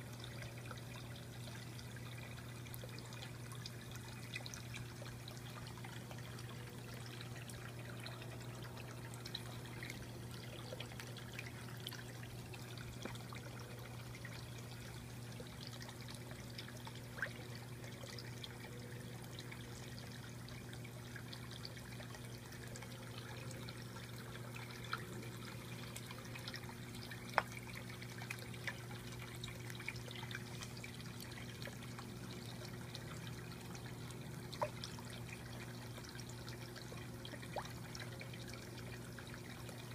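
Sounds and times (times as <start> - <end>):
fountain water trickling and splashing: 0.0 - 39.9
pump electric hum: 0.0 - 39.9
water drips: 0.0 - 39.9.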